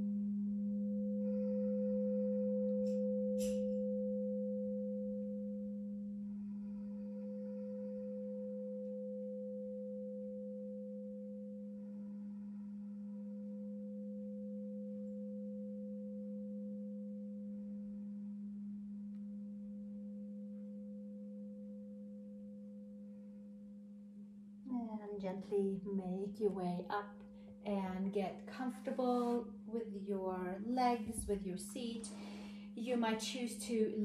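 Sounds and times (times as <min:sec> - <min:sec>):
singing bowl tone: 0:00.0 - 0:28.3.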